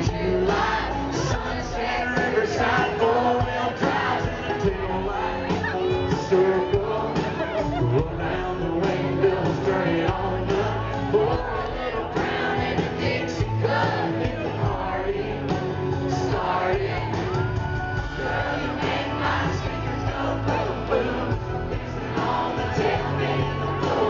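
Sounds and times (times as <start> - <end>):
crowd cheering: 0.0 - 24.0
live country band playing: 0.0 - 24.0
person singing: 0.0 - 24.0.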